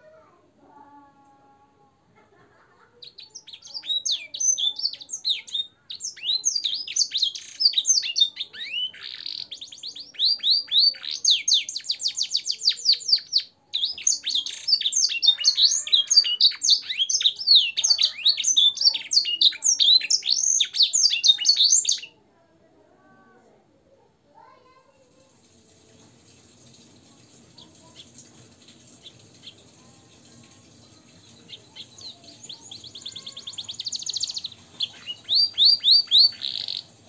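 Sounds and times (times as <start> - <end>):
canary singing: 3.0 - 22.2, 26.4 - 37.0.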